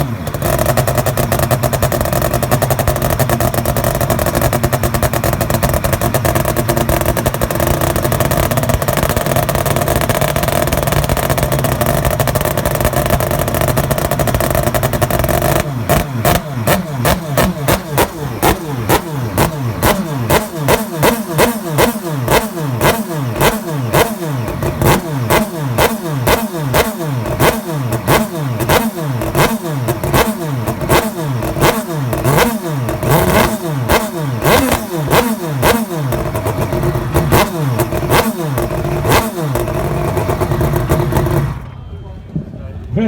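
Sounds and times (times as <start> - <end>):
motorcycle engine revving hard: 0.0 - 41.7.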